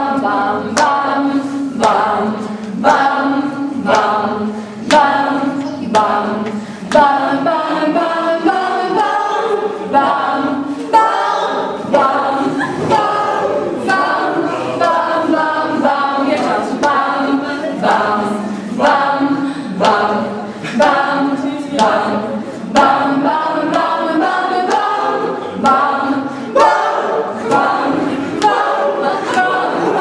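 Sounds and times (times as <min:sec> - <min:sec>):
group singing a cappella: 0:00.0 - 0:30.0.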